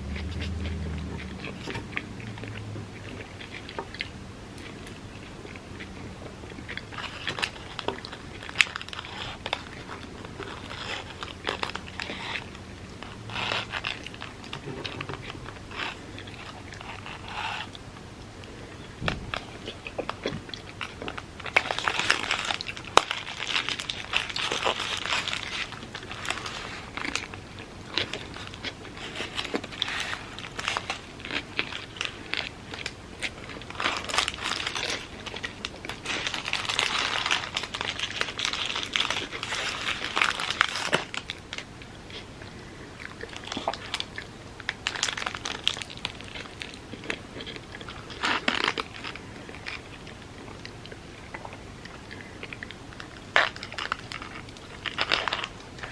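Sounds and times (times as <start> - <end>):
biting and chewing: 0.0 - 55.9
crinkling and crackling: 0.0 - 55.9.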